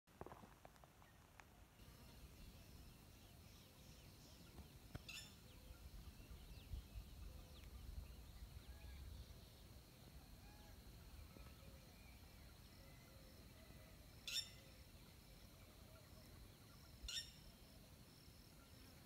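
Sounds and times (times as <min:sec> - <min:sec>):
faint bird chirps: 0:01.8 - 0:17.7.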